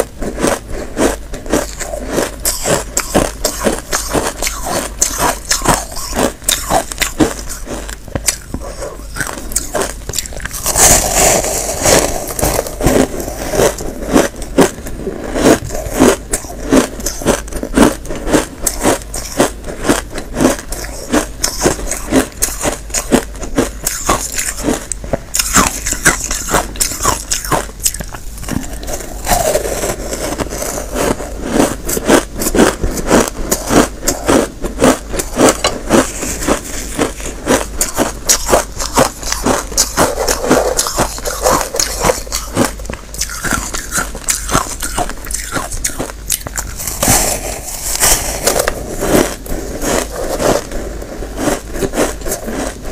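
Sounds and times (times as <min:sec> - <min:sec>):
frozen ice being chewed: 0:00.0 - 0:52.9.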